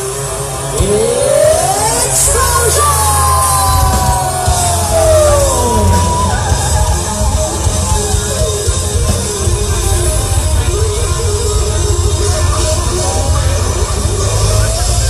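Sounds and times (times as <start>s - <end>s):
electric guitar lead: 0.0s - 15.0s
heavy bass: 0.0s - 15.0s
rock band playing: 0.0s - 15.0s.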